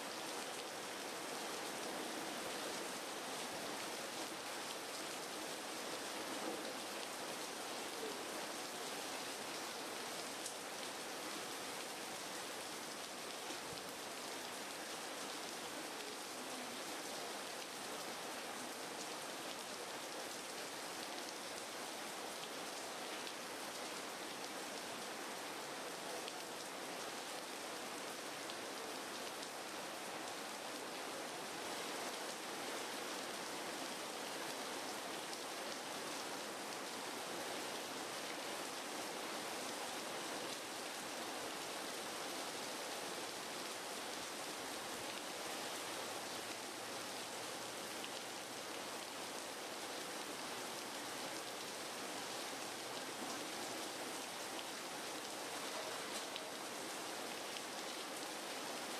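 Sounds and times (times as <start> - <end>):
steady hiss like rain: 0.0 - 58.9.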